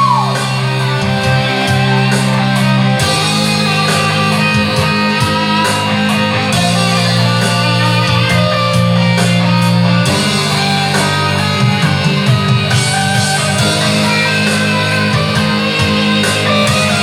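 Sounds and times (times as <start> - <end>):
instrumental hard rock music: 0.0 - 17.0.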